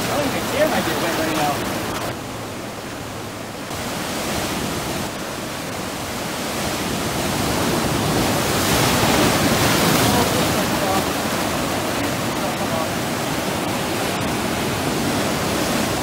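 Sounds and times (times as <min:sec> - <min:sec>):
ocean surf washing in: 0:00.0 - 0:16.0.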